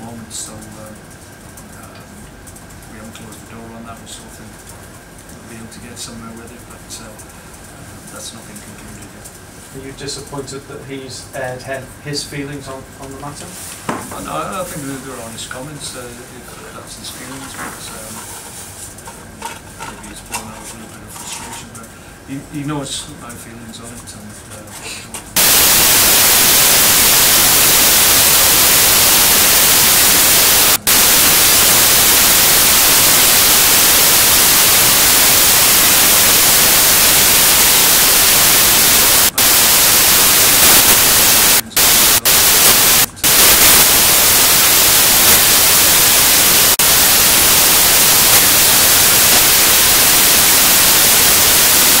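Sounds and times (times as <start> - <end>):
static hiss: 0.0 - 52.0.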